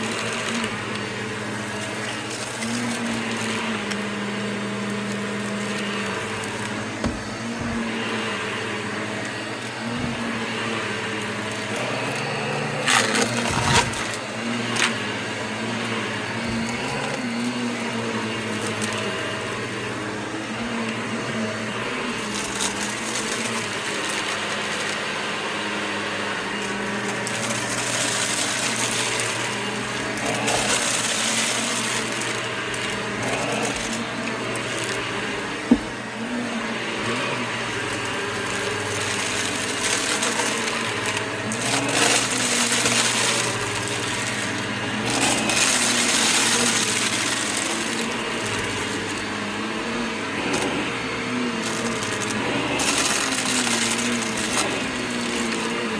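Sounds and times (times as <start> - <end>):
vacuum cleaner running: 0.0 - 55.9
vacuum sucking up crunchy debris: 0.0 - 55.9.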